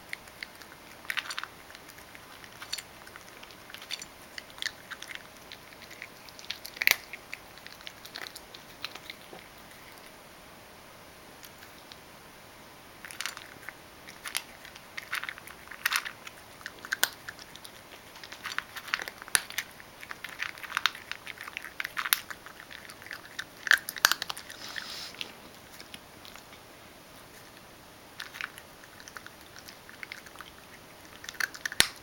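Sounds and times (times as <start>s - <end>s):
cat crunching dry kibble: 0.0s - 10.2s, 13.0s - 32.0s.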